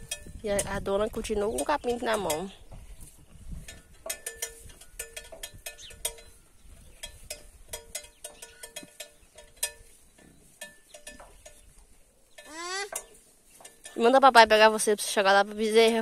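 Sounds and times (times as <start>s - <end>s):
light metallic clinks: 0.0s - 14.4s.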